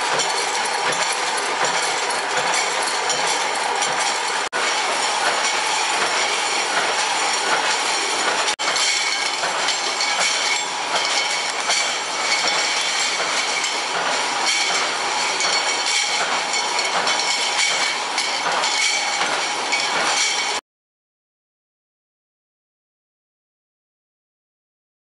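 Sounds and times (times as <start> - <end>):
machinery clattering: 0.0 - 20.6.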